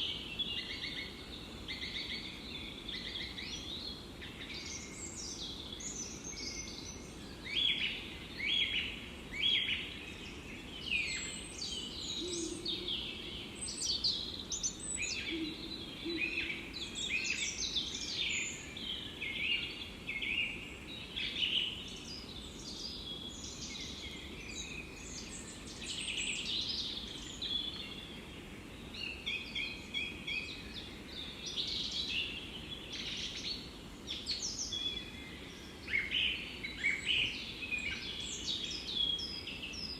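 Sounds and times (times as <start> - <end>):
small birds chirping and trilling: 0.0 - 39.9
steady low background noise: 0.0 - 39.9.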